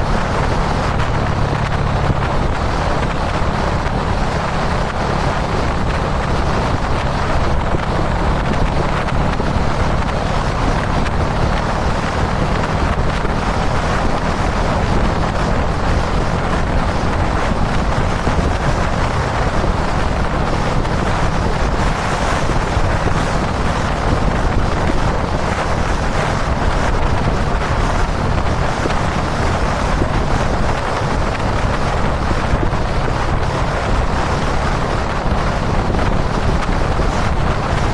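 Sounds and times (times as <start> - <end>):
motorcycle engine running: 0.0 - 37.9
wind rush on microphone: 0.0 - 37.9.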